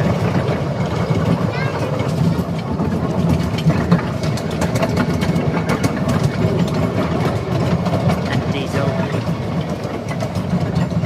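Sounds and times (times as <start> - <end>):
miniature train rumbling on track: 0.0 - 11.0.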